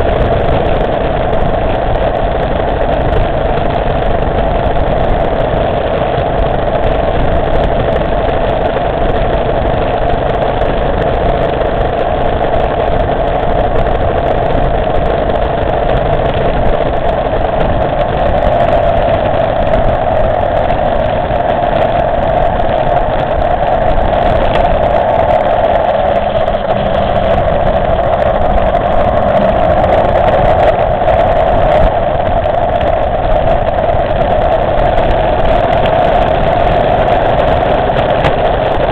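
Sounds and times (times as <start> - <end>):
motorcycle engine running: 0.0 - 38.9
road noise: 0.0 - 38.9.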